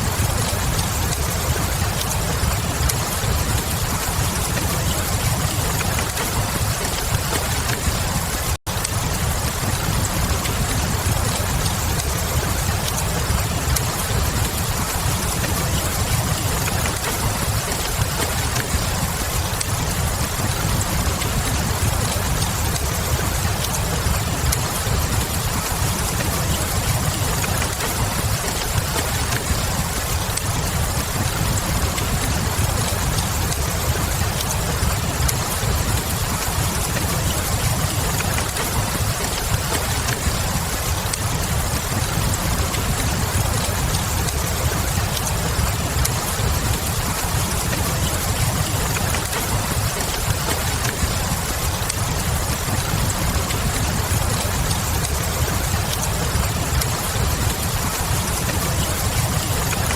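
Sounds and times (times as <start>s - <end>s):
fire rumbling and crackling: 0.0s - 59.9s
rain hissing: 0.0s - 59.9s.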